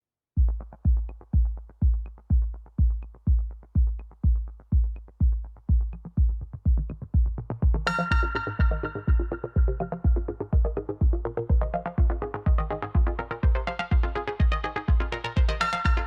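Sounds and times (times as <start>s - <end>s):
deep kick drum beat: 0.4s - 16.0s
synth chords: 0.5s - 16.0s.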